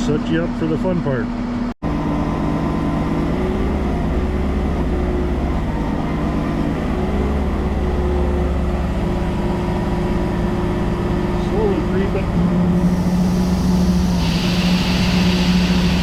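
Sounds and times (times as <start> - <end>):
deep low drone: 0.0 - 16.0
engine running under load: 0.0 - 16.0.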